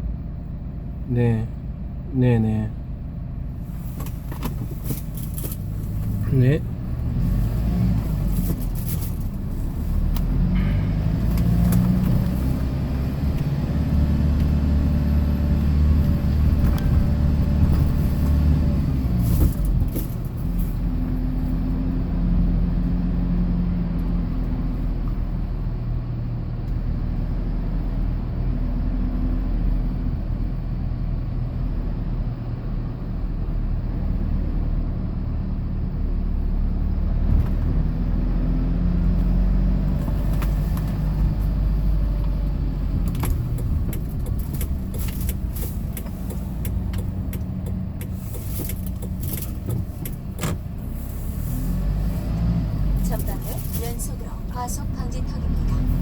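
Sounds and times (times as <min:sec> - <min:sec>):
road noise: 0:00.0 - 0:56.0
truck engine from inside cab: 0:00.0 - 0:56.0.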